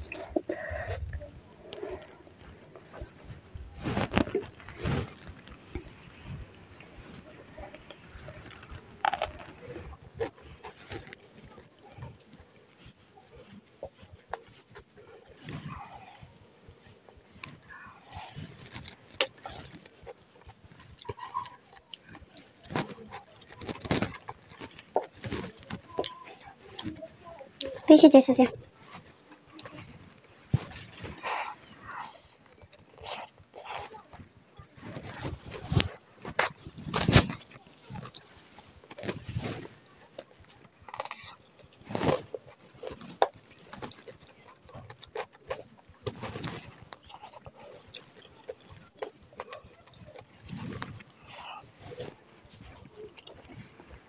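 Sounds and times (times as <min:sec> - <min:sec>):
wet chewing and lip-smacking: 0:00.0 - 0:06.9, 0:07.7 - 0:54.0
biting into a leaf: 0:07.9 - 0:16.3, 0:17.1 - 0:27.0, 0:27.6 - 0:53.7.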